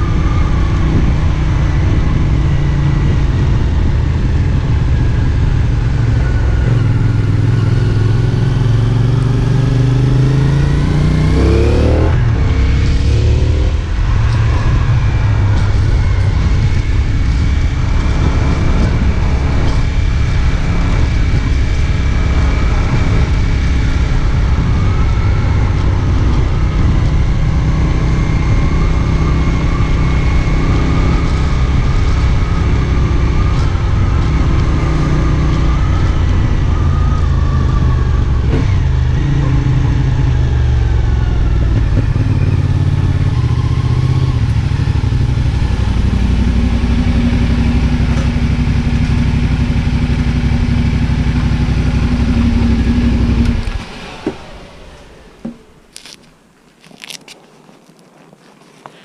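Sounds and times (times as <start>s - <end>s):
motorcycle engine running: 0.0s - 56.2s.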